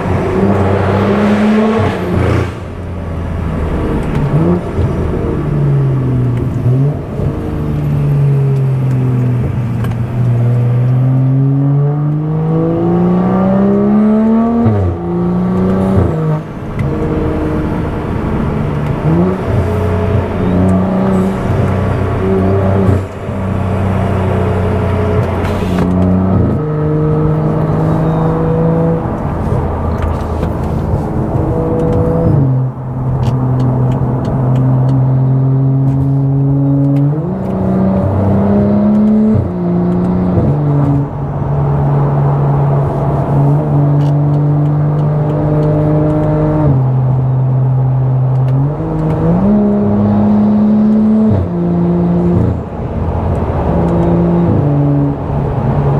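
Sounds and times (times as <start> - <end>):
car engine droning through exhaust: 0.0 - 55.9.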